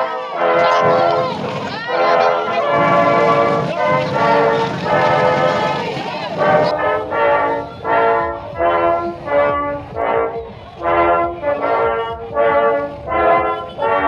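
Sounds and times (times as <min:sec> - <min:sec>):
brass instrument slow melody: 0:00.0 - 0:14.0.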